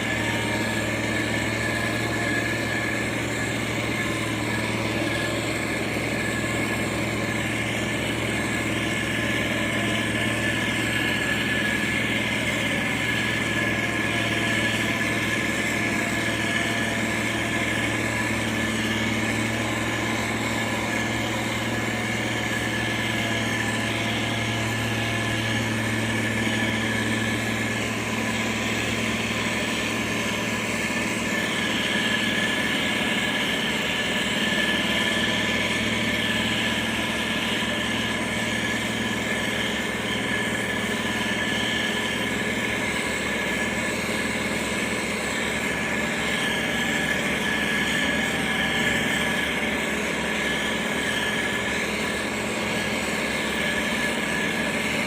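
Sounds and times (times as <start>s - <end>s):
diesel engine low drone: 0.0s - 55.0s
high whine: 0.0s - 55.0s.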